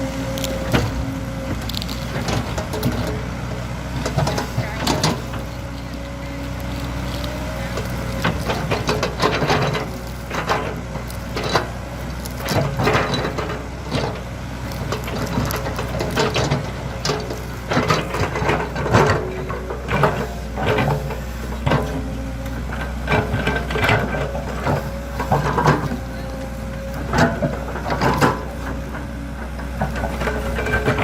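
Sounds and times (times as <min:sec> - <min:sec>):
excavator diesel engine running: 0:00.0 - 0:31.0
machine knocks and clanks: 0:00.6 - 0:31.0.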